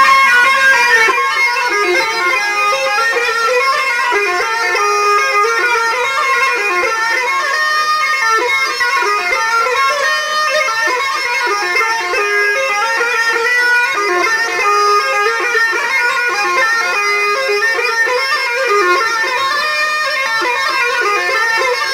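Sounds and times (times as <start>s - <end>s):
reedy wind pipe folk melody: 0.0s - 21.9s.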